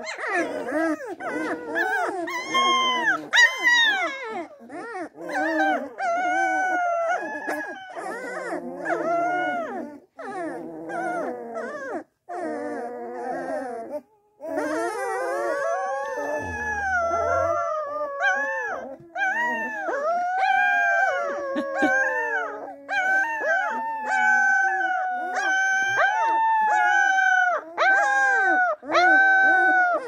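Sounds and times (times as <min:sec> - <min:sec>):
puppies howling: 0:00.0 - 0:30.0.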